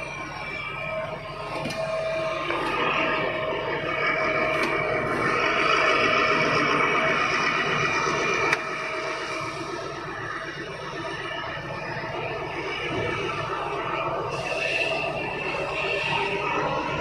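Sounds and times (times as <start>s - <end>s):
excavator diesel engine working: 0.0s - 17.0s.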